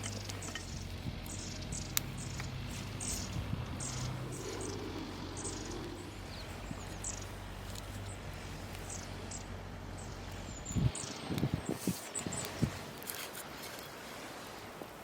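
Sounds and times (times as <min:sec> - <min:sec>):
low steady hum: 0:00.0 - 0:14.7.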